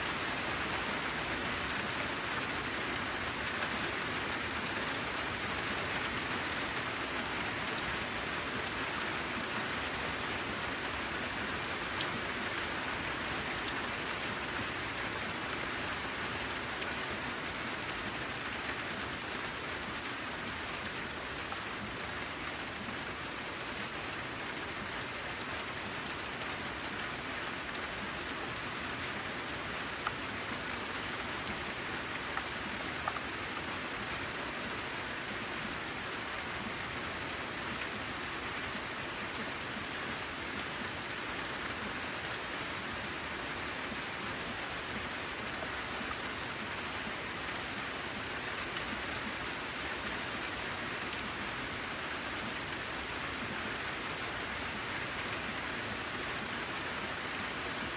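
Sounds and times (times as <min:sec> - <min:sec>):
rain on a metal roof: 0:00.0 - 0:57.9.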